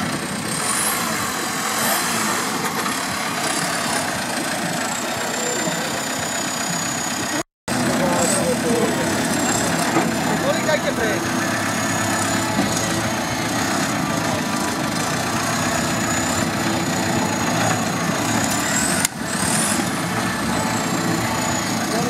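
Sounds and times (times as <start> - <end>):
buggy engine running under load: 0.0 - 22.0.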